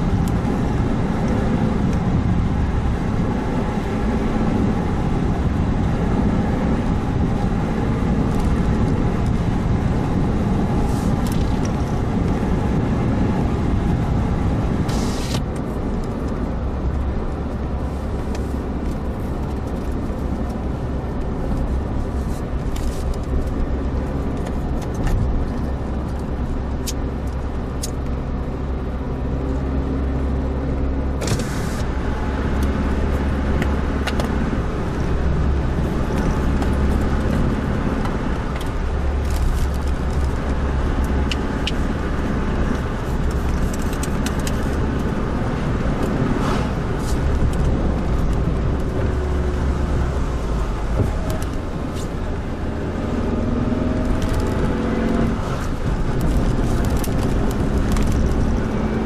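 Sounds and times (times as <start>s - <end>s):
car engine drone: 0.0s - 59.0s
tyre and road noise: 0.0s - 59.0s.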